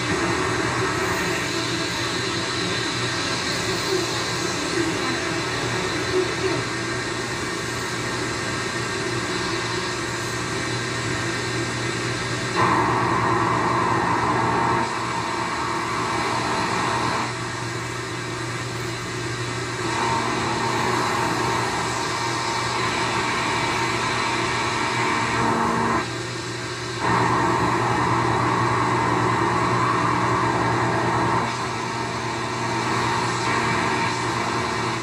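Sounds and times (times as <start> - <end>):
radio hissing while tuned: 0.0 - 26.1, 27.0 - 35.0
steady hum: 0.0 - 35.0.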